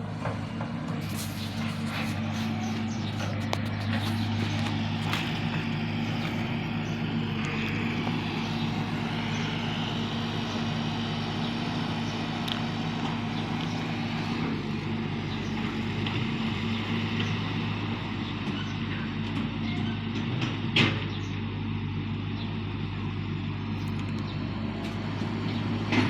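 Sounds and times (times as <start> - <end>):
excavator engine drone: 0.0 - 26.0.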